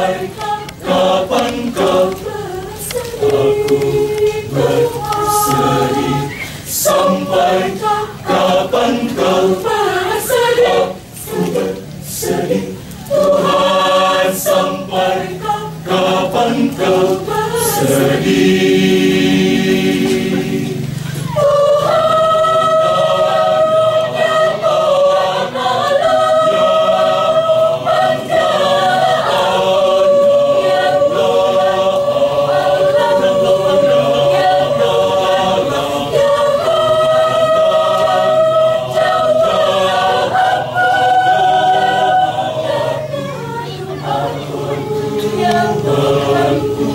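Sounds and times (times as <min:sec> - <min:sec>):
choir singing held chords: 0:00.0 - 0:46.9.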